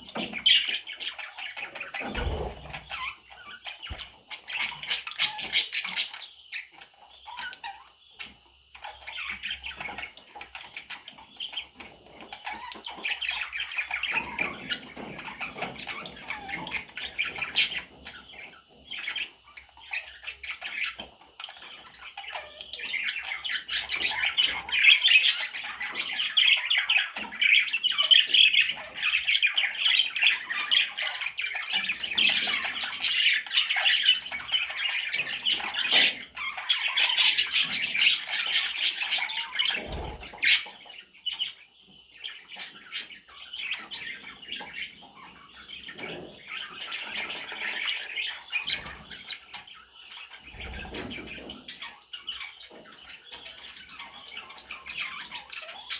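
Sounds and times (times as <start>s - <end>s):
budgerigar chicks chirping: 0.0s - 55.9s.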